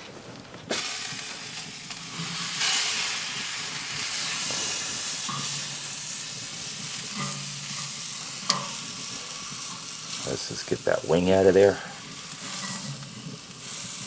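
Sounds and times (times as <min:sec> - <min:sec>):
fire hissing and crackling: 0:00.0 - 0:14.0.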